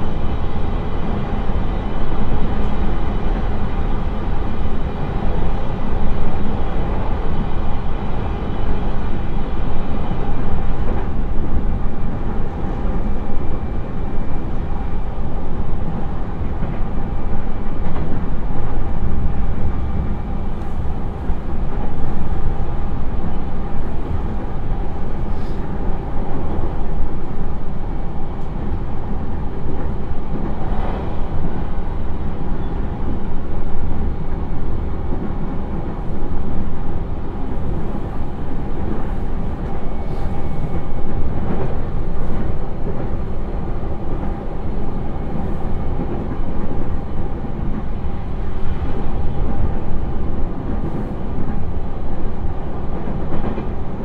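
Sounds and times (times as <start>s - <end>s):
wheel-on-rail rumble: 0.0s - 54.0s.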